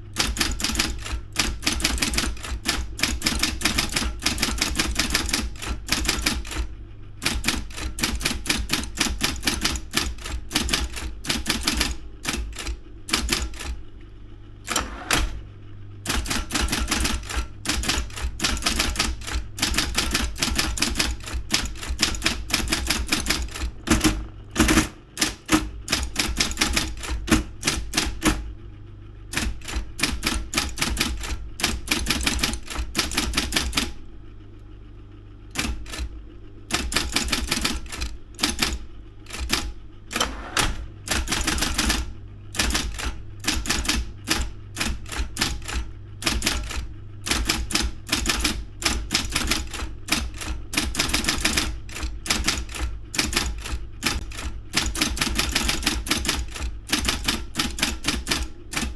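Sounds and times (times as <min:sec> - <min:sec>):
typewriter motor humming: 0:00.0 - 0:28.6, 0:29.3 - 0:34.7, 0:35.5 - 0:58.9
electric typewriter keystrikes: 0:00.1 - 0:13.8, 0:14.6 - 0:15.4, 0:16.0 - 0:28.5, 0:29.3 - 0:34.0, 0:35.5 - 0:58.9.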